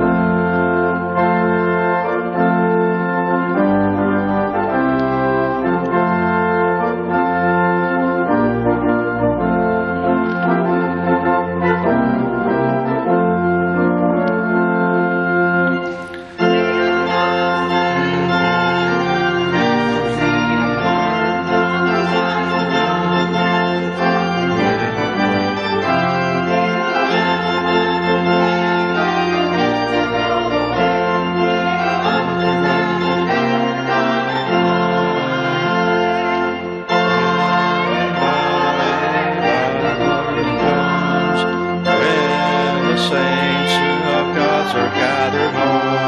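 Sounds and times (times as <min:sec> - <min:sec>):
organ playing held chords: 0:00.0 - 0:46.0.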